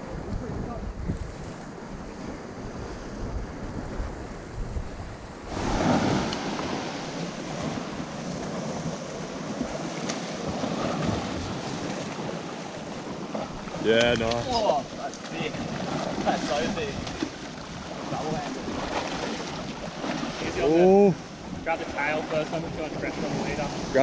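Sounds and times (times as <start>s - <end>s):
wind rumbling on microphone: 0.0s - 24.0s
ocean surf washing over rocks: 1.6s - 24.0s.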